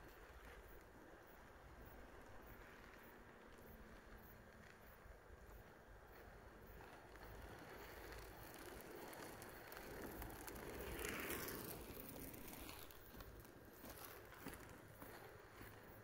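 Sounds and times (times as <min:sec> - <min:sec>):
skate wheels rolling on asphalt: 0:00.0 - 0:16.0.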